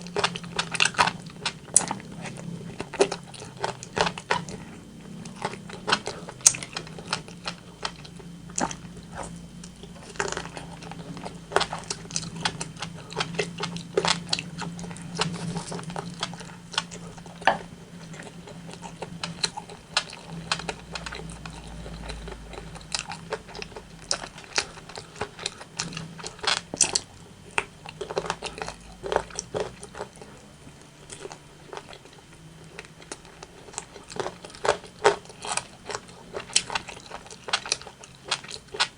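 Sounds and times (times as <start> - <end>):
chewing and crunching chicken: 0.0 - 38.9
faint low hum: 0.0 - 38.9.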